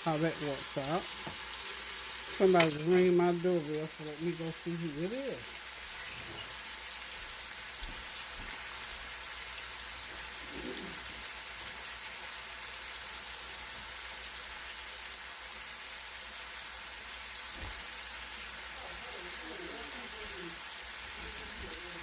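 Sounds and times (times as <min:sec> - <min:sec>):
food sizzling in pans: 0:00.0 - 0:22.0.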